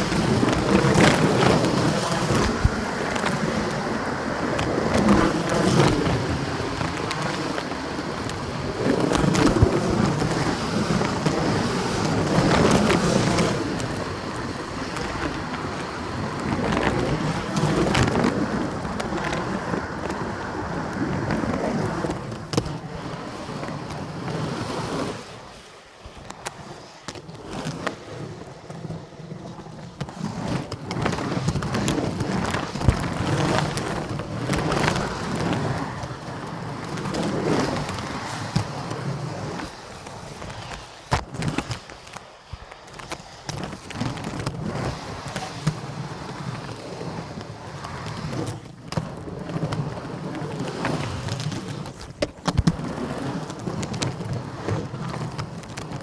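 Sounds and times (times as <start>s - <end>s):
roller skate wheels rolling on wood: 0.0s - 56.0s.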